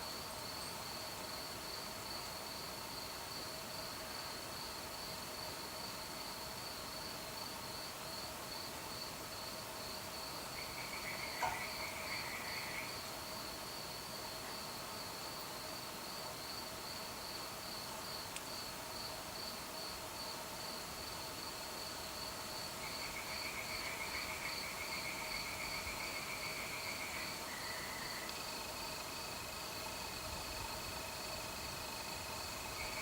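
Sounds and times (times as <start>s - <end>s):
crickets chirping: 0.0s - 33.0s
insect trill: 0.0s - 33.0s.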